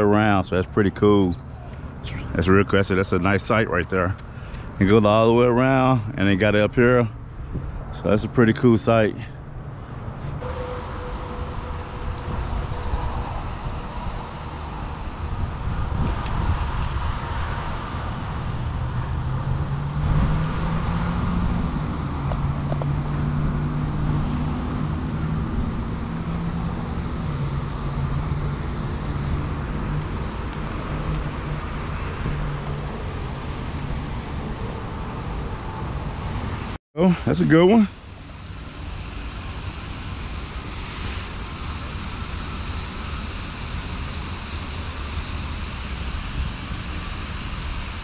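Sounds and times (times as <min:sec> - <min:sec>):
steady engine hum: 0:00.0 - 0:48.0
traffic rumble: 0:00.0 - 0:48.0.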